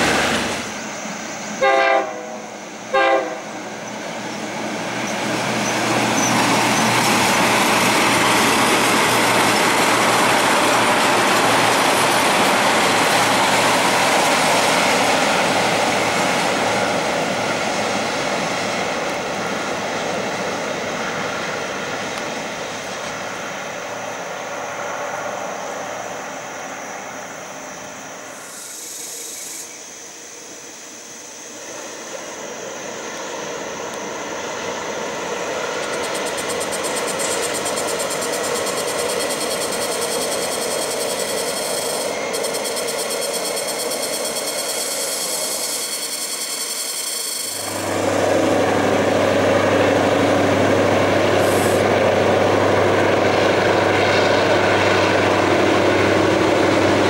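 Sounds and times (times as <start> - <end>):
diesel locomotive engine hum: 0.0 - 57.0
train rumble: 0.0 - 57.0.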